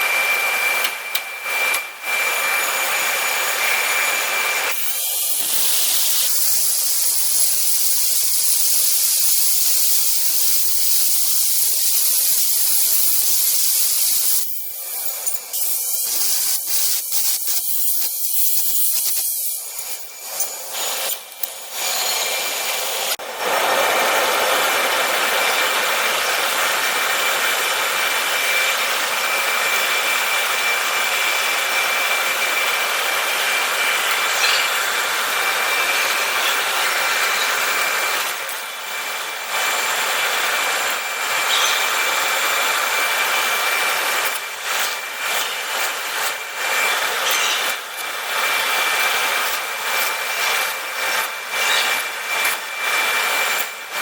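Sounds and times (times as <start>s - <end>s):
power grinder sharpening metal: 0.0s - 23.2s, 26.2s - 54.0s.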